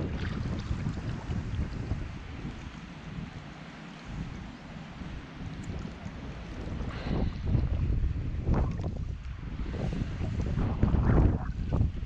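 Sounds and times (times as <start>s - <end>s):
choppy water lapping: 0.0s - 12.0s
wind buffeting microphone: 0.0s - 12.0s.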